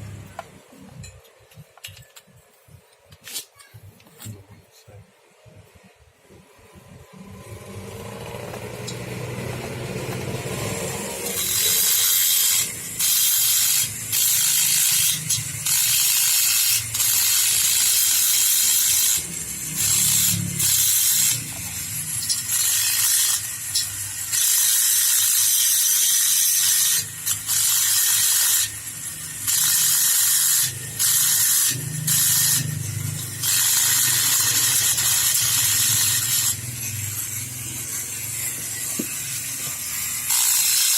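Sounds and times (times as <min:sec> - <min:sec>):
hissing grinding on metal: 0:07.2 - 0:40.9
power grinder running: 0:07.2 - 0:40.9.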